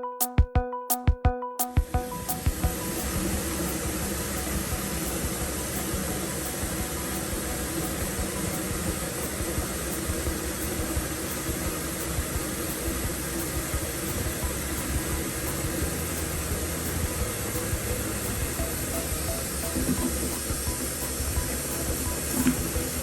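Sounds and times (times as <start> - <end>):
machine hiss: 2.0 - 23.0
low machine rumble: 2.1 - 23.0.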